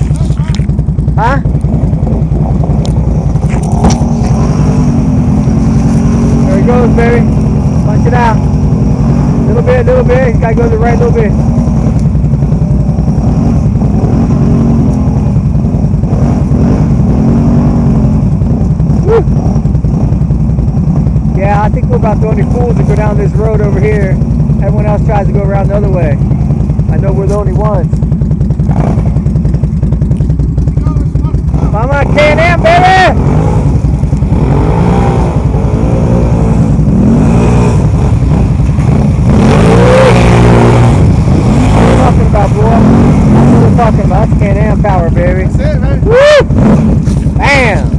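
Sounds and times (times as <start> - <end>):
atv engine revving hard: 0.0 - 47.9.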